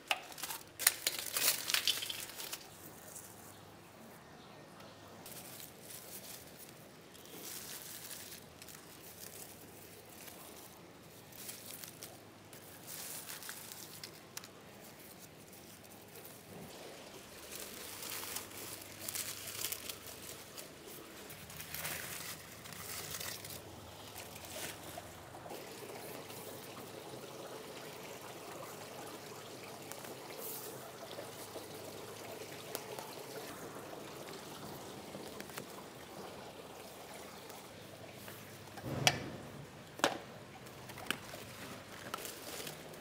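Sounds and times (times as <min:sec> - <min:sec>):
water pouring and splashing: 0:00.0 - 0:03.5, 0:05.2 - 0:43.0.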